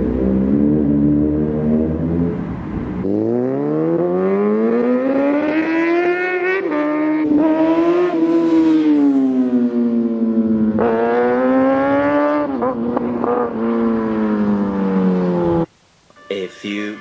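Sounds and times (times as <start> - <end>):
motorcycle engine accelerating hard: 0.0 - 15.6.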